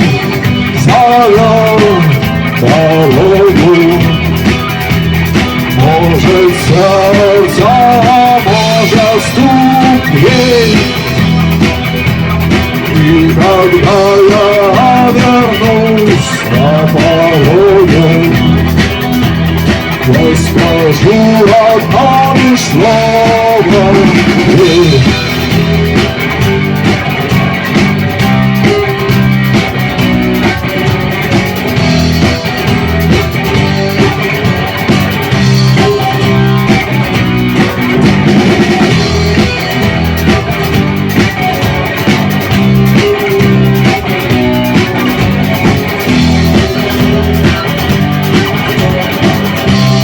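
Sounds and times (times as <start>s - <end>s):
bass guitar: 0.0s - 50.0s
drum kit: 0.0s - 50.0s
electric guitars: 0.0s - 50.0s.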